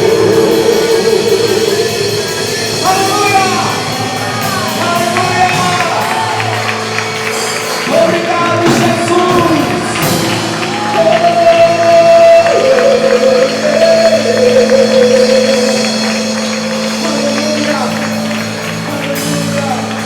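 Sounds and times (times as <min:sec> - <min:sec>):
band playing gospel song: 0:00.0 - 0:20.0
person singing: 0:00.0 - 0:20.0.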